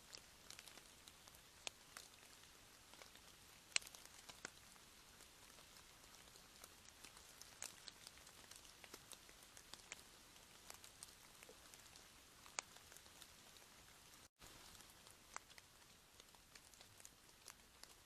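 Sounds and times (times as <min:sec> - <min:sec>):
faint steady rain: 0:00.0 - 0:18.0.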